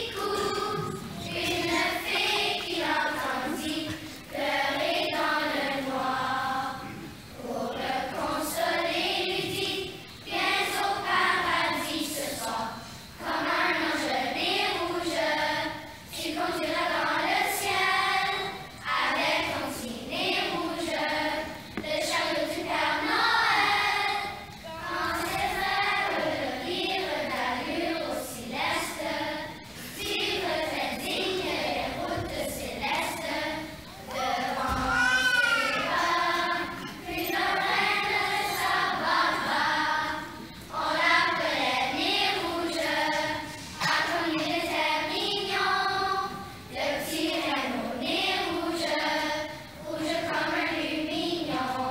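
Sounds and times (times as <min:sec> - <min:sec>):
children's choir singing: 0:00.0 - 0:51.9.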